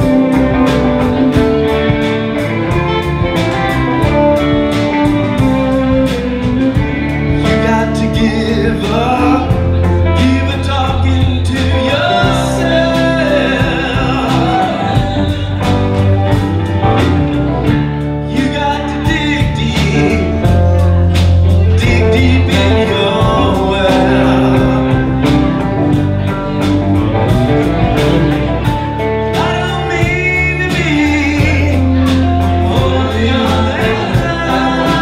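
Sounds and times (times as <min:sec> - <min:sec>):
lead singer vocals: 0:00.0 - 0:16.8, 0:17.6 - 0:26.7, 0:28.2 - 0:35.0
live rock band playing: 0:00.0 - 0:35.0.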